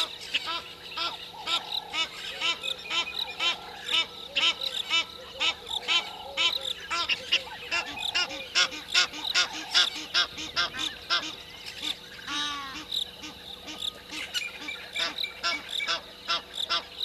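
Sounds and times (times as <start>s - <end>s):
birds giving harsh alarm calls: 0.0s - 17.0s.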